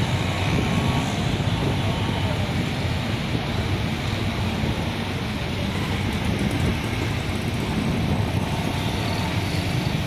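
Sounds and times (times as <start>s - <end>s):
distant jet airliner rumble: 0.0s - 10.0s
road traffic: 0.0s - 10.0s.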